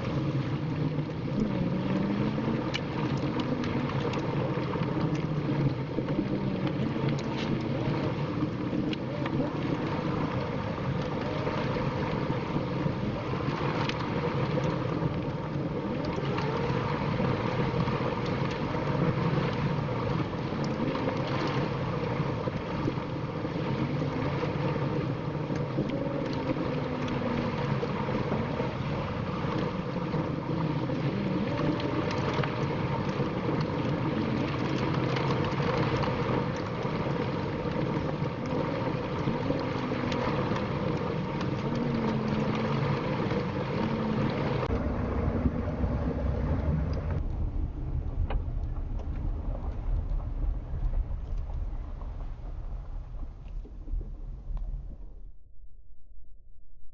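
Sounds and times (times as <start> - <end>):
vehicle engine and tyre rumble: 0.0 - 55.4.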